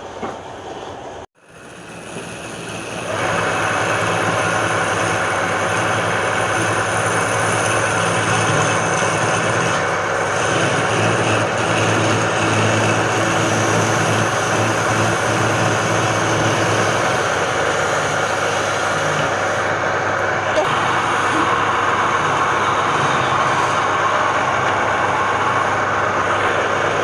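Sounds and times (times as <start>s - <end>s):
wood lathe running: 1.4s - 27.0s.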